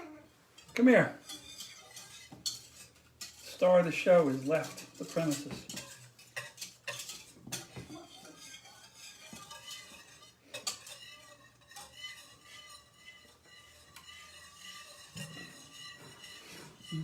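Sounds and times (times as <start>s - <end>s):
whisk stirring in a saucepan: 0.0s - 17.0s.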